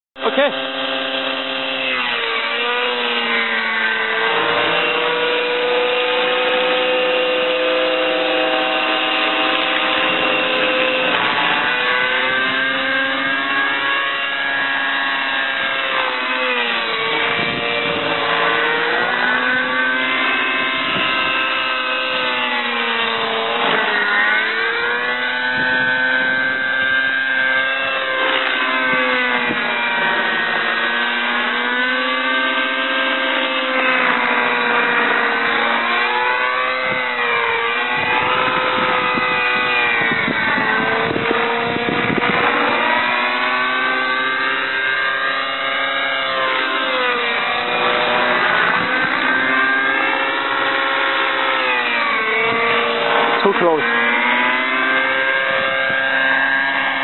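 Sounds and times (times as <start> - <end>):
model helicopter engine and rotor: 0.2 - 57.0.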